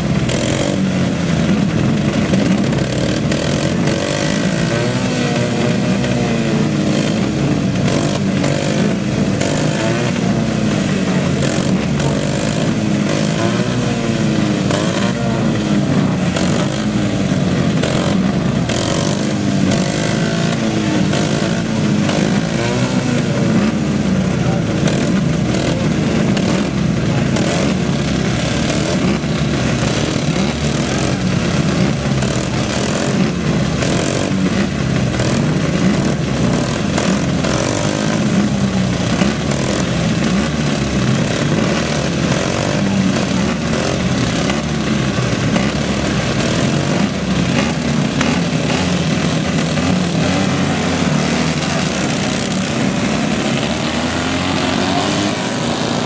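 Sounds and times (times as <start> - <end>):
motorcycle engines revving together: 0.0 - 56.0.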